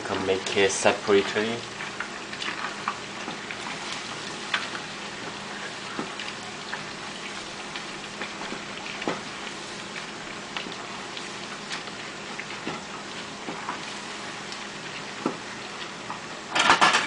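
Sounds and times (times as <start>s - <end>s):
food sizzling in hot oil: 0.0s - 17.0s
oil popping and crackling: 0.0s - 17.0s.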